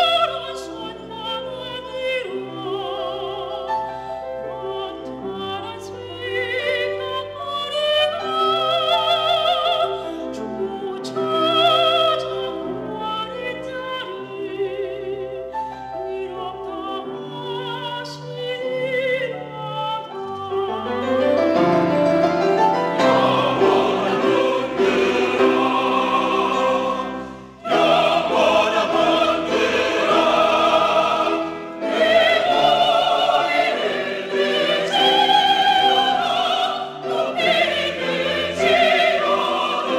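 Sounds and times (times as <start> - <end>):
church choir singing: 0.0 - 15.2, 16.0 - 39.9.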